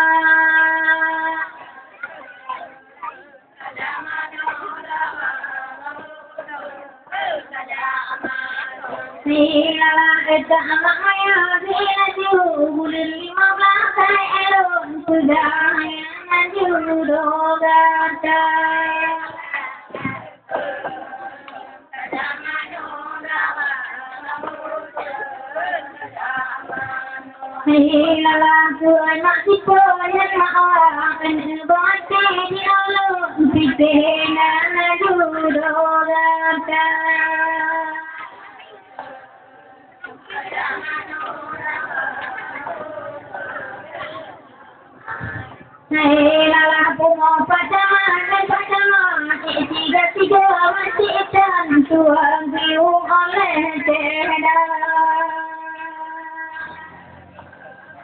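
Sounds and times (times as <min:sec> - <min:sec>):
women singing in unison: 0:00.0 - 0:58.0.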